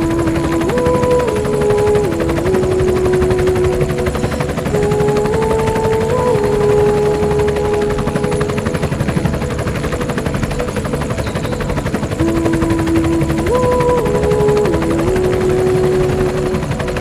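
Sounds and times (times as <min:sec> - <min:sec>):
aircraft in flight: 0:00.0 - 0:17.0.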